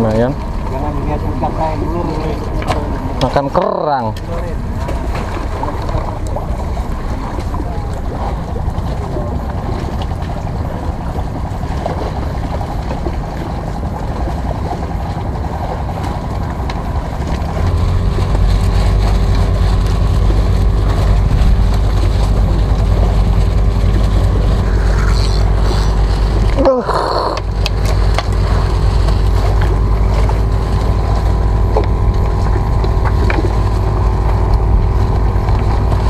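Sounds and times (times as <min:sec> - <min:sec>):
motorboat engine hum: 0:00.0 - 0:36.0
wind rumble on microphone: 0:00.0 - 0:36.0.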